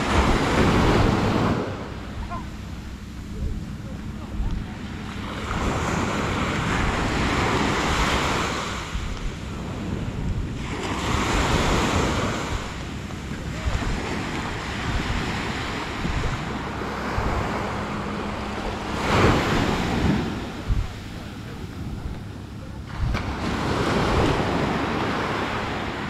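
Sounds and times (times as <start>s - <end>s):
small waves breaking on sand: 0.0s - 2.8s, 3.6s - 22.2s, 22.9s - 26.0s
wind rumble on microphone: 0.0s - 26.0s.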